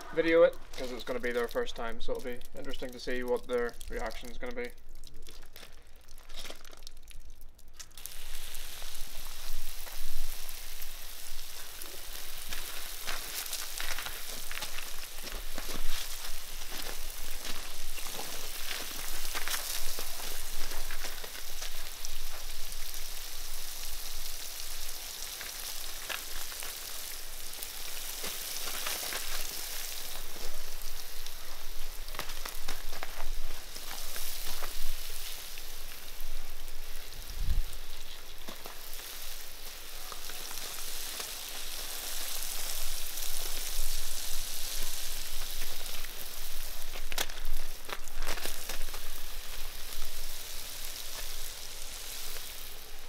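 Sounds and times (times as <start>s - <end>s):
water spattering on gravel: 0.0s - 53.0s.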